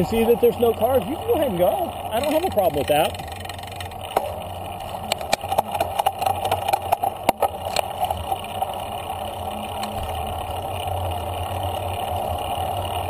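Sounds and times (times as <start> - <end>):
bicycle clicks and rattles: 0.0 - 13.0
bicycle tyres on path: 0.0 - 13.0.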